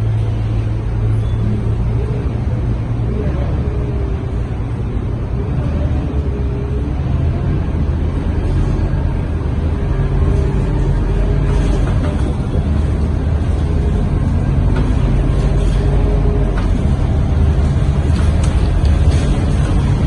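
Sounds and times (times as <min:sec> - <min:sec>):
bus engine droning: 0:00.0 - 0:20.0
road noise: 0:00.0 - 0:20.0.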